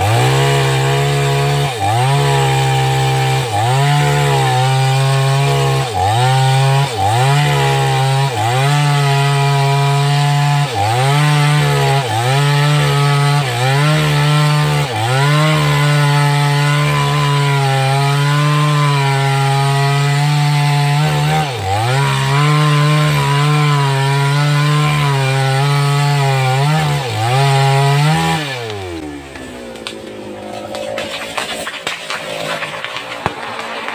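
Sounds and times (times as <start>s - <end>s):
chainsaw cutting through wood: 0.0s - 33.9s.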